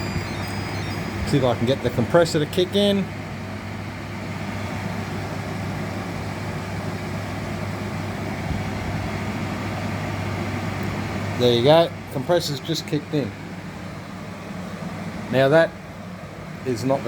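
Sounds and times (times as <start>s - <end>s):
air conditioner fan noise: 0.0s - 17.0s
low constant hum: 0.0s - 17.0s.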